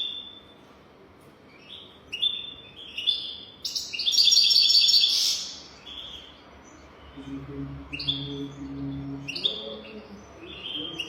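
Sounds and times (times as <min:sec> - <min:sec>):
goldfinch singing: 0:01.5 - 0:11.0.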